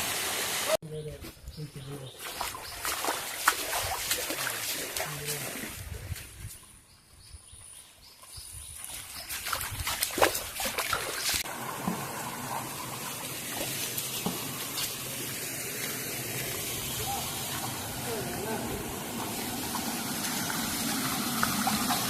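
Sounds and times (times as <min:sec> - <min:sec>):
water trickling in a stream: 0:01.5 - 0:06.8, 0:08.1 - 0:22.0.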